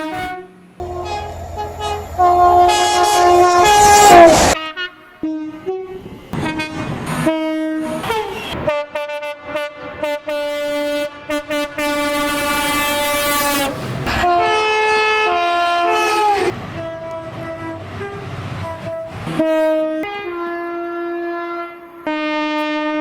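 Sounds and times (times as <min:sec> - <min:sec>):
train horn blasts: 0:00.0 - 0:23.0
two-tone train horn: 0:00.0 - 0:23.0.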